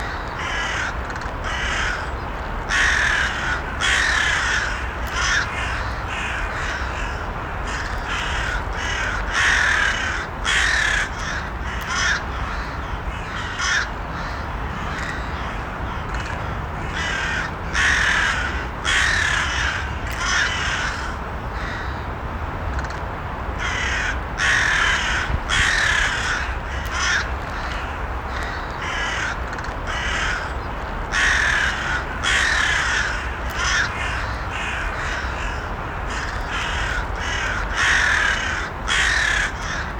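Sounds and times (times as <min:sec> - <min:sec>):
crows cawing: 0:00.0 - 0:02.1, 0:02.7 - 0:22.0, 0:23.6 - 0:39.9.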